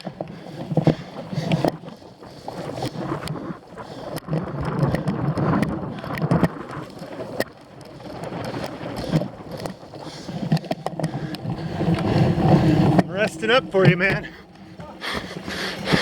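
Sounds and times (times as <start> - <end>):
bike clattering on rough ground: 0.0 - 16.0
wind rushing over microphone: 0.6 - 16.0.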